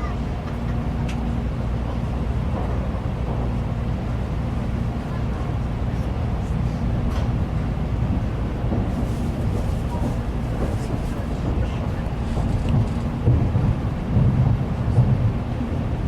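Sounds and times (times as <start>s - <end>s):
train interior rumble: 0.0s - 16.0s.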